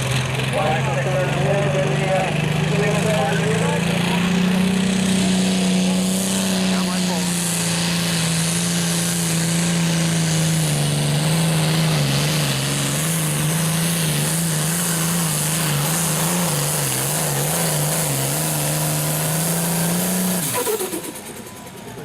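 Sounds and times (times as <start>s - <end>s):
tractor engine running flat out: 0.0s - 22.0s.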